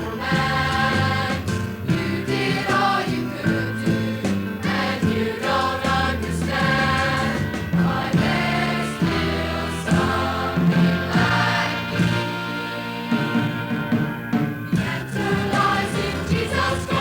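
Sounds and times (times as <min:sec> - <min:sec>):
choir singing gospel song: 0:00.0 - 0:17.0
instrumental accompaniment: 0:00.0 - 0:17.0.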